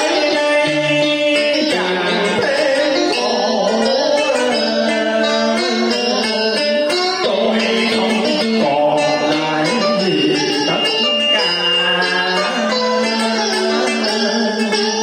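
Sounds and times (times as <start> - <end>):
bowed two-string fiddle: 0.0 - 15.0
man singing: 0.0 - 15.0
plucked lute: 0.0 - 15.0.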